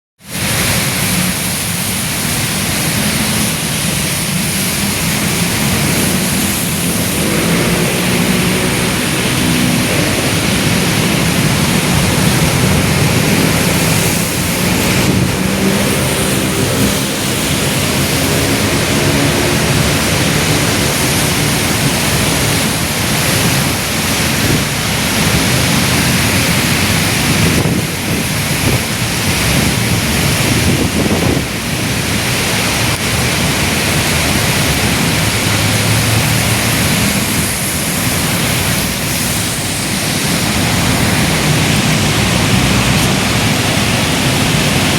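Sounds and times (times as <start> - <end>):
heavy rain: 0.2 - 44.9
vehicle engines running: 0.4 - 44.9.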